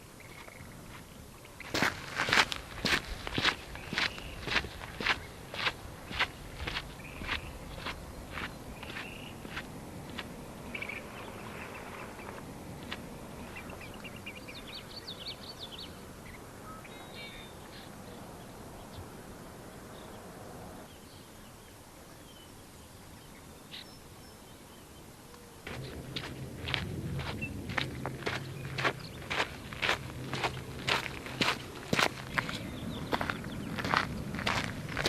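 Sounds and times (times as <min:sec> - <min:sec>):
outdoor background hiss: 0:00.0 - 0:35.0
small birds chirping and trilling: 0:00.2 - 0:09.6, 0:10.6 - 0:12.4, 0:13.4 - 0:35.0.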